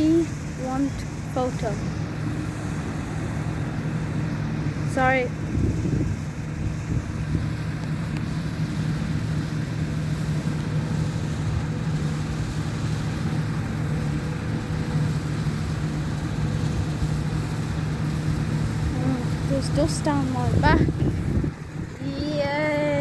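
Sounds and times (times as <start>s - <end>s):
combine harvester engine droning: 0.0s - 23.0s.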